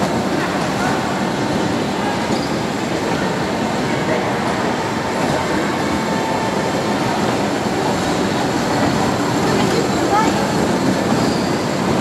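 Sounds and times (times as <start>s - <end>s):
miniature train rolling on track: 0.0s - 12.0s.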